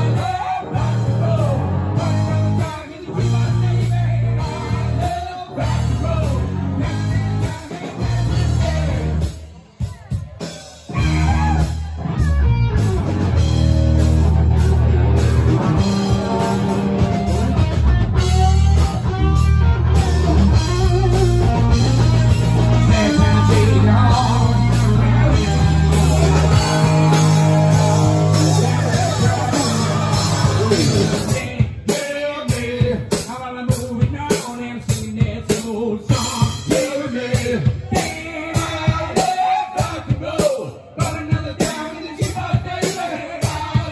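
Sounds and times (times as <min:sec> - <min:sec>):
hard-hit drum beat: 0:00.0 - 0:43.9
live rock band playing: 0:00.0 - 0:43.9.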